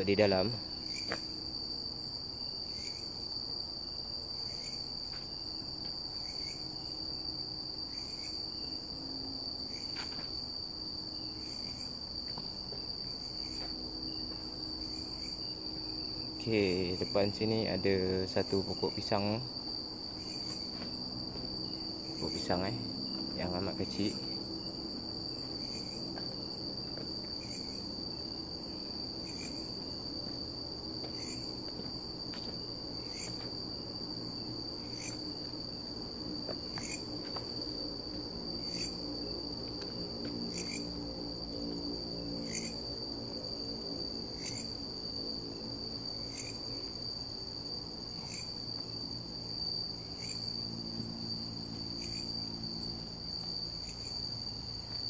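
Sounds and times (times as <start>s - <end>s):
crickets trilling: 0.0s - 55.0s
insect chirping: 0.0s - 55.0s.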